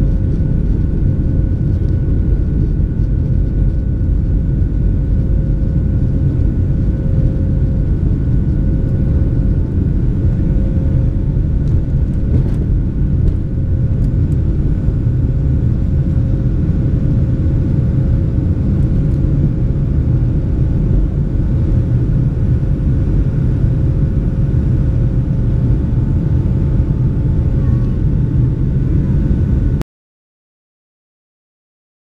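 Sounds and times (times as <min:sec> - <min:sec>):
jet engine whining tones: 0:00.0 - 0:29.8
jet engines rumbling in cabin: 0:00.0 - 0:29.8.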